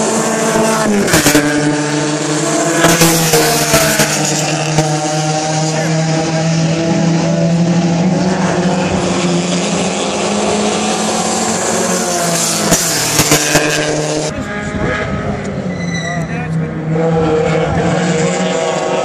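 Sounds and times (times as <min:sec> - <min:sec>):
race car engines running: 0:00.0 - 0:19.0.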